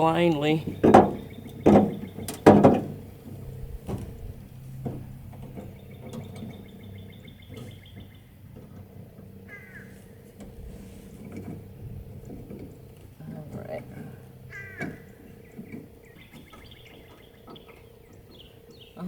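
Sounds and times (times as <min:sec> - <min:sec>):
latch parts clicking: 0:00.0 - 0:18.7
low steady hum: 0:00.0 - 0:19.0.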